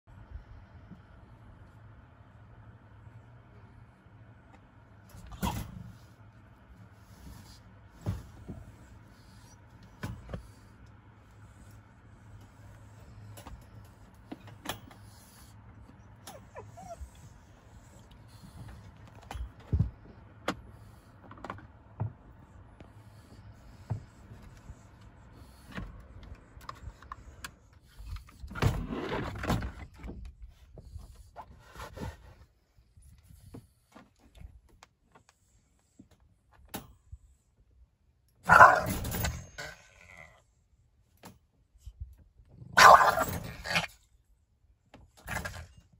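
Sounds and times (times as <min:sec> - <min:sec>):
low steady hum: 0:00.1 - 0:45.9.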